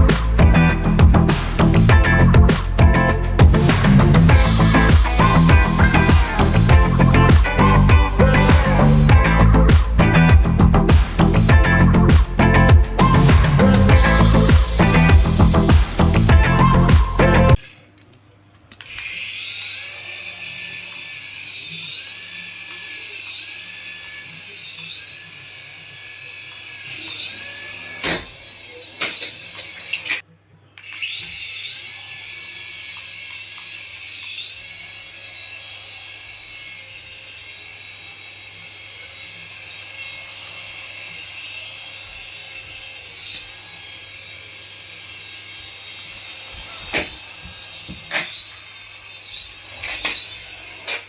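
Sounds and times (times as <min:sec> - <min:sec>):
small electric motor whining: 0:00.0 - 0:17.6, 0:18.8 - 0:51.0.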